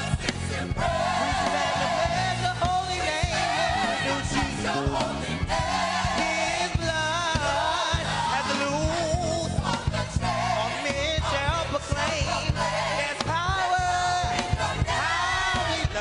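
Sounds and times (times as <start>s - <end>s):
bass line: 0.0s - 16.0s
drum strokes: 0.0s - 16.0s
gospel choir singing: 0.0s - 16.0s.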